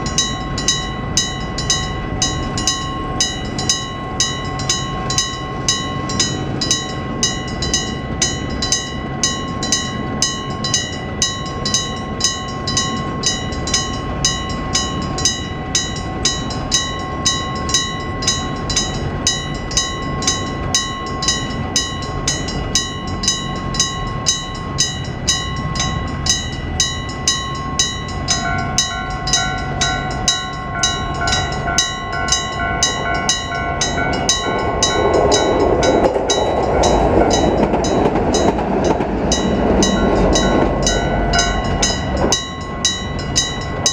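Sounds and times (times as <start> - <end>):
level crossing warning bell: 0.0 - 43.9
steady pitched tone: 0.0 - 43.9
train rumbling past: 0.0 - 43.9.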